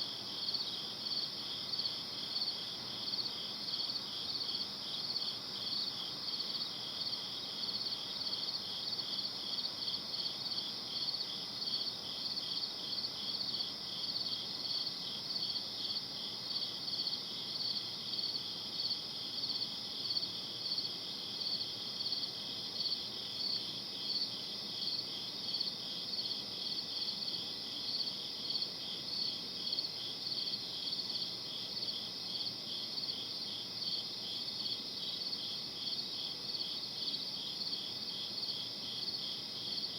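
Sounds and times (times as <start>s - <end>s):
crickets chirping: 0.0s - 39.9s
faint low background hiss: 0.0s - 39.9s.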